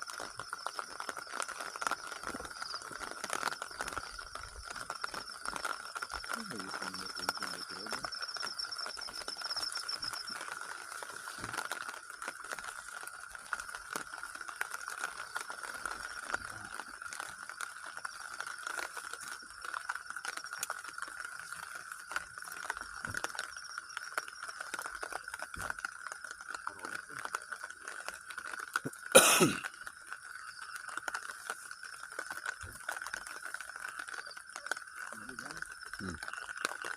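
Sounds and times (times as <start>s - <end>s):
insects and frogs calling: 0.0s - 36.9s
rain drops pattering: 0.0s - 36.9s.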